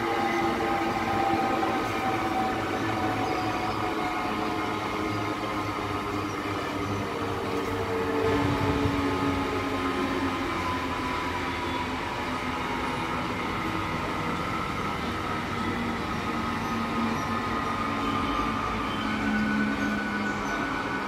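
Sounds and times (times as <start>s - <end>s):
train rumbling with whining tones: 0.0s - 21.0s.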